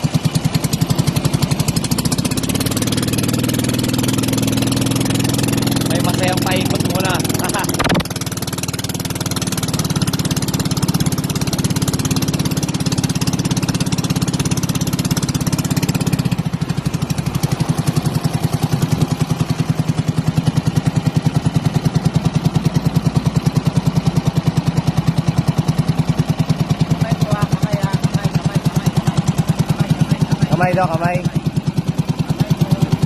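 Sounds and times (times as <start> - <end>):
small boat engine running: 0.0 - 33.0.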